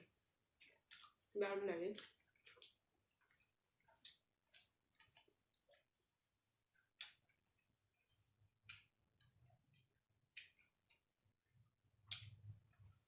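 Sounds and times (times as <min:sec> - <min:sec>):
wet chewing clicks: 0:00.0 - 0:11.2, 0:12.0 - 0:13.0.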